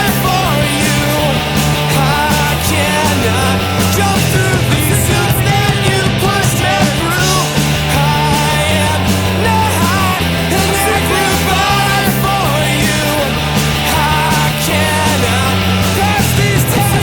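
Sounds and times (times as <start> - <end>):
punk rock band music: 0.0 - 17.0.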